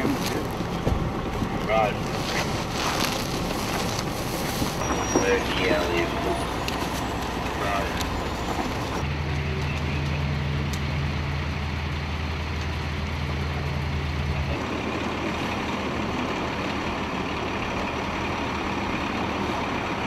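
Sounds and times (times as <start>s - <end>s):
outdoor rumble and hiss: 0.0s - 20.0s
vehicle engine idling: 0.0s - 20.0s.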